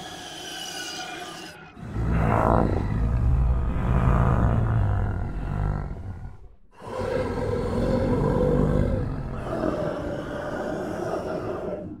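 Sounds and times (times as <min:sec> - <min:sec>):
monster snoring: 0:01.8 - 0:11.9.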